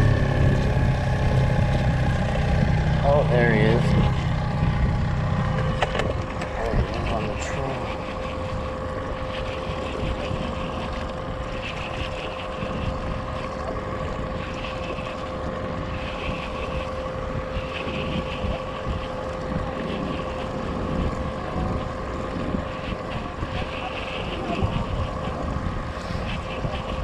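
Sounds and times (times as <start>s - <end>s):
outboard motor humming: 0.0s - 27.0s
wind on microphone: 0.0s - 27.0s.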